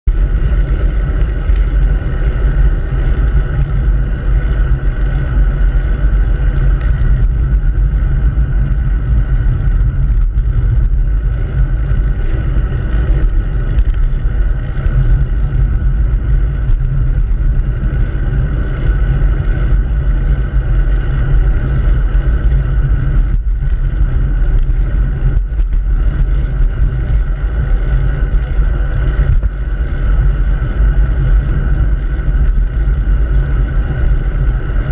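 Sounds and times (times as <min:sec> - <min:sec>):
tyres rumbling on road: 0:00.0 - 0:34.9
wind on microphone: 0:00.0 - 0:34.9.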